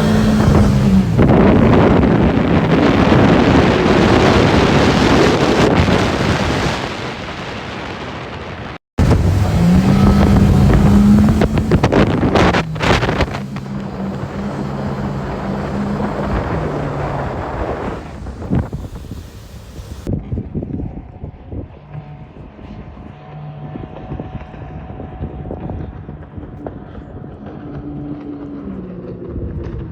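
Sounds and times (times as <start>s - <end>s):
outboard motor at high speed: 0.0s - 7.2s, 9.0s - 29.9s
wind buffeting microphone: 0.0s - 29.9s.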